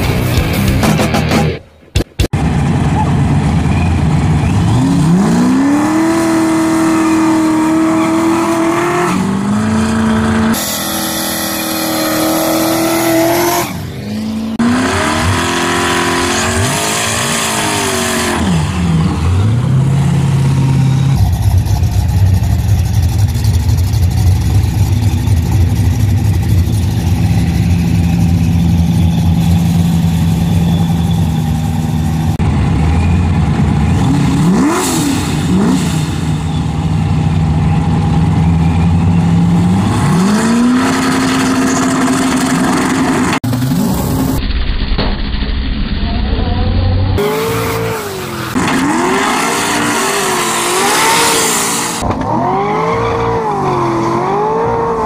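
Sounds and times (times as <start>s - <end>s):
drag race engines revving: 2.4s - 44.5s, 45.6s - 55.0s.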